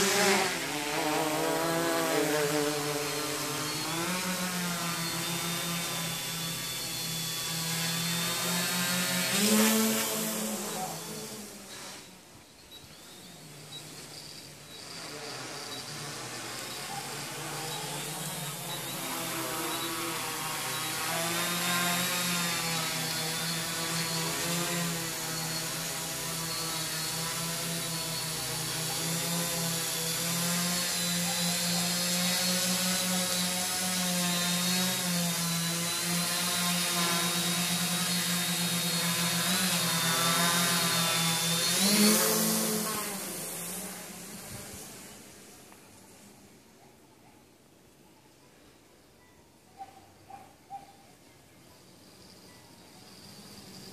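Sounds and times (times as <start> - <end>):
drone propellers buzzing: 0.0 - 46.6, 52.0 - 53.9.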